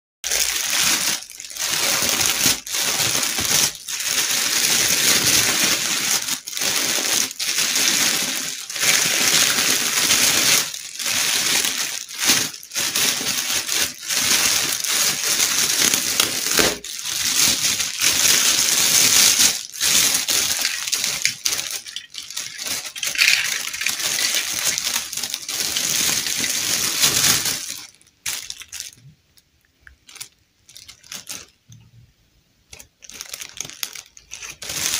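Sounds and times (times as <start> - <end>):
plastic bag crinkling: 0.2 - 29.2, 29.8 - 31.7, 32.7 - 34.9.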